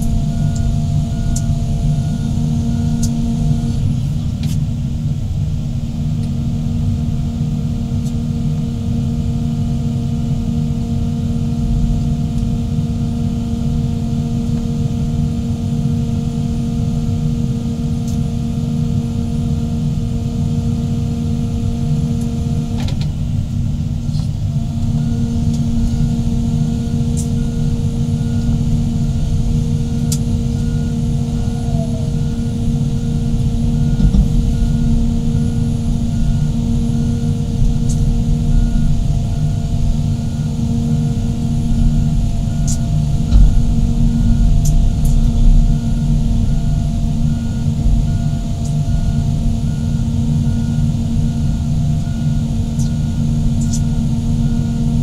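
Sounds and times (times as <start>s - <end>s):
excavator diesel engines rumbling: 0.0s - 55.0s.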